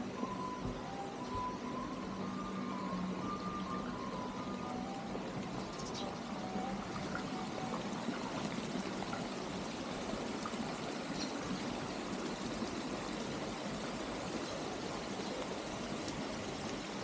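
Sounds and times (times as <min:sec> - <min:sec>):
running trickling water: 0:00.0 - 0:17.0.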